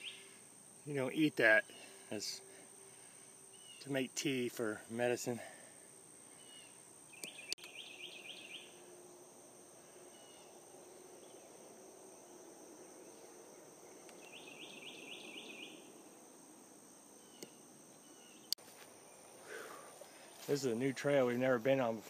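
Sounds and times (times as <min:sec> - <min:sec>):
quick insect chirps: 0:00.0 - 0:20.9
insects droning: 0:00.0 - 0:22.0.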